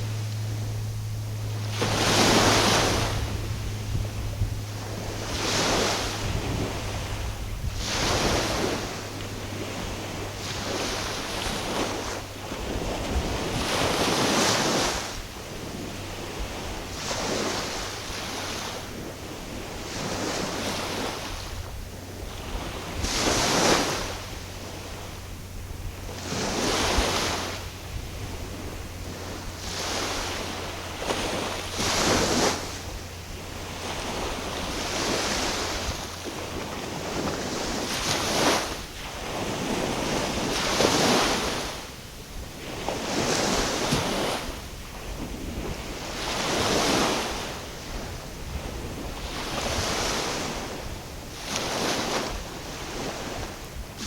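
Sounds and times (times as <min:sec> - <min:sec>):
small waves washing on shore: 0:00.0 - 0:54.0
wind buffeting microphone: 0:00.0 - 0:54.0.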